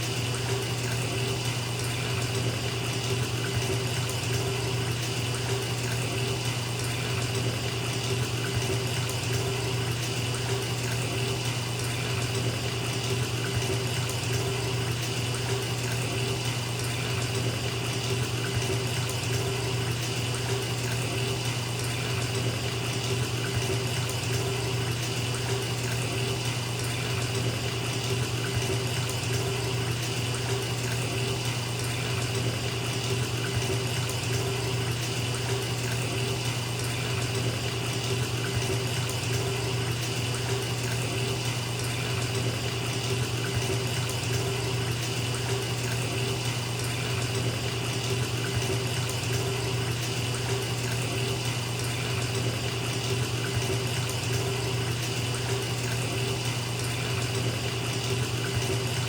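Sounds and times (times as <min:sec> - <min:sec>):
water pouring into a bathtub: 0:00.0 - 0:59.0.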